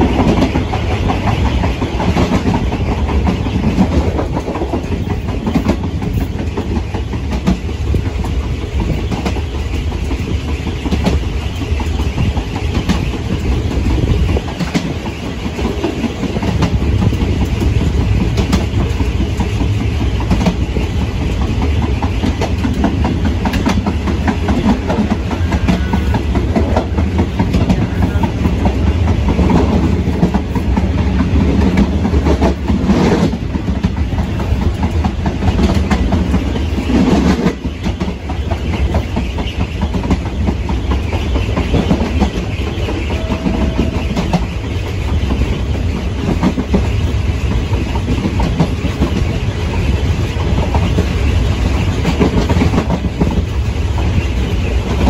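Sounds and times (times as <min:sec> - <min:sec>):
train rumble: 0:00.0 - 0:55.0
train wheels clacking over rail joints: 0:00.0 - 0:55.0.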